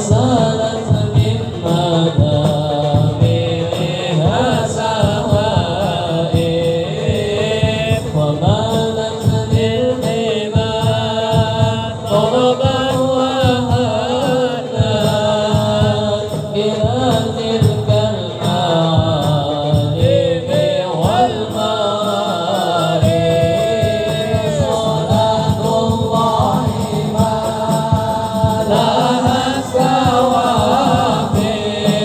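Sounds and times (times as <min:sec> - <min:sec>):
frame drums beating: 0:00.0 - 0:32.0
man singing through loudspeaker: 0:00.0 - 0:32.0.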